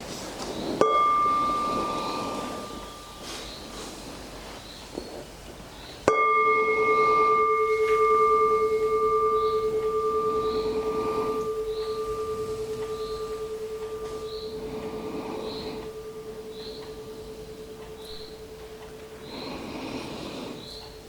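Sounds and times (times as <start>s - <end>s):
meditation bowl bell ringing: 0.0s - 21.0s.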